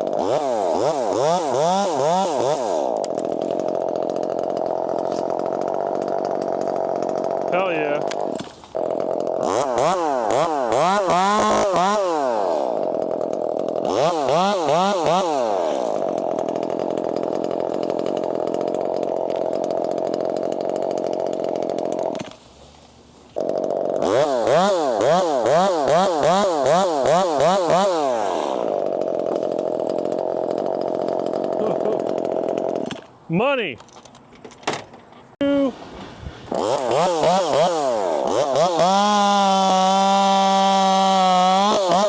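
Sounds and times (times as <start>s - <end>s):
chainsaw idling and revving: 0.0s - 22.4s, 23.4s - 33.2s, 36.5s - 42.0s.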